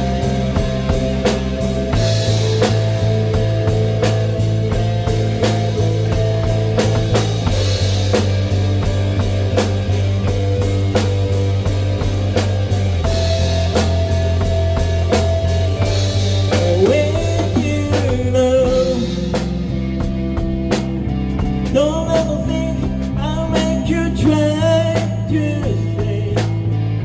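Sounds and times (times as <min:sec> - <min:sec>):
bass guitar: 0:00.0 - 0:27.0
drums: 0:00.0 - 0:27.0
electric guitar: 0:00.0 - 0:27.0.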